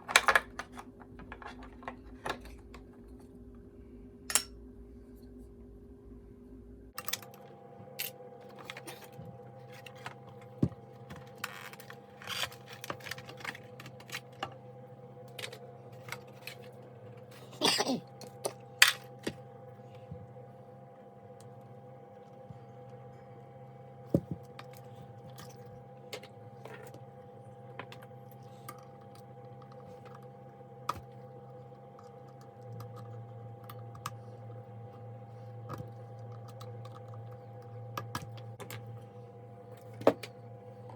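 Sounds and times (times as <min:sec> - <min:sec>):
background hum: 0:00.0 - 0:40.9.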